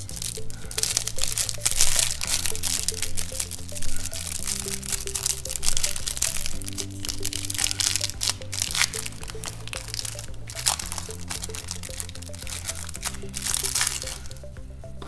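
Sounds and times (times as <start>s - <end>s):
plastic bag crinkling: 0.0s - 14.5s
background music: 0.0s - 15.0s.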